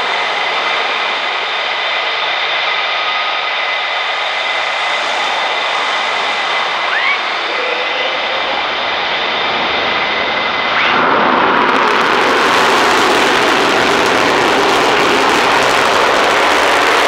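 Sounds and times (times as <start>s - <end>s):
jet engines whining on takeoff: 0.0s - 17.0s.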